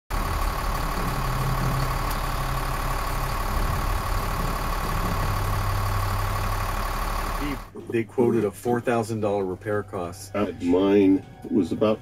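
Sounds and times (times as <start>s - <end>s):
constant whine: 0.1s - 10.7s
motorhome engine idling: 0.1s - 10.8s.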